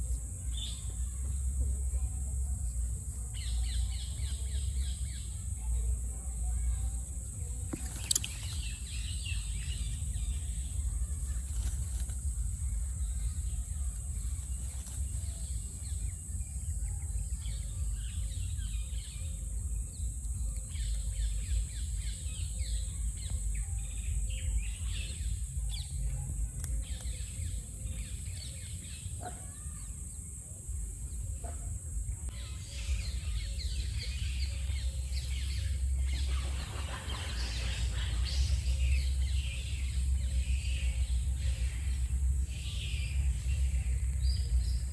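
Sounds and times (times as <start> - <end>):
low rumble: 0.0 - 28.7, 32.1 - 44.9
bird chirps: 3.2 - 29.9, 32.3 - 44.9.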